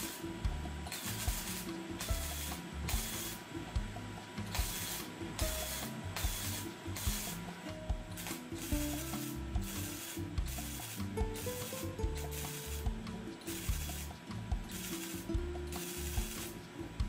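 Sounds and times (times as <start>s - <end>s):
welder crackling: 0.0s - 3.6s, 4.4s - 16.9s.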